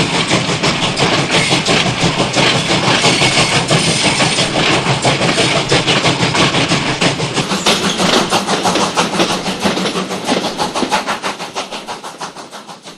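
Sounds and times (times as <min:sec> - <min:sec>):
steam locomotive chuffing: 0:00.0 - 0:12.9.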